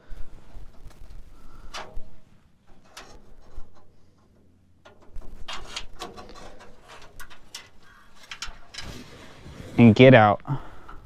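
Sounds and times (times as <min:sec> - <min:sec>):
metal scraping: 0:00.0 - 0:11.0.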